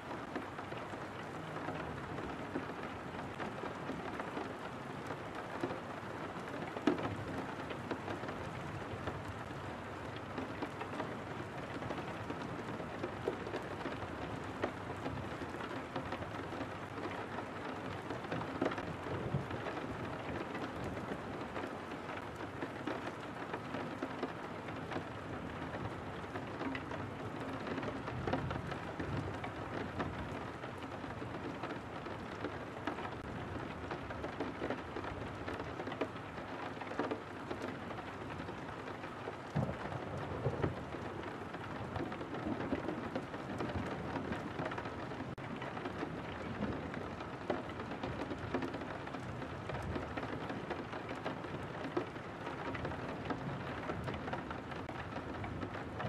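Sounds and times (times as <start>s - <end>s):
rain on a window: 0.0s - 56.0s
raindrops tapping: 0.0s - 56.0s.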